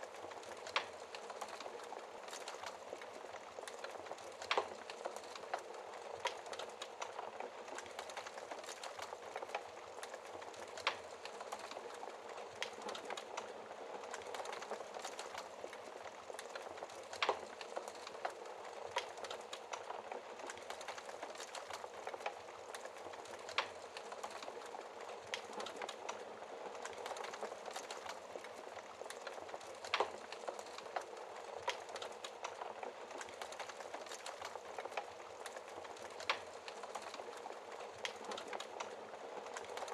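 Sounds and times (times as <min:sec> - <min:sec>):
wood fire crackling: 0:00.0 - 0:39.9
fire popping: 0:00.1 - 0:39.9.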